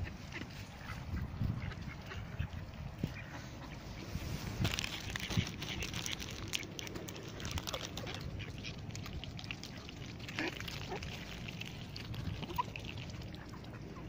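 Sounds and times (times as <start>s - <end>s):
bills pecking at ground: 0.0s - 14.0s
ducks quacking: 0.0s - 14.0s.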